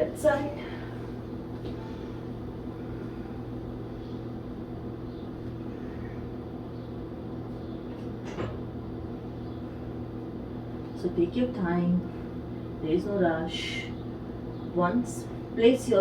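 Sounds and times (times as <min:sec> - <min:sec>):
low mechanical hum of machinery: 0:00.0 - 0:16.0.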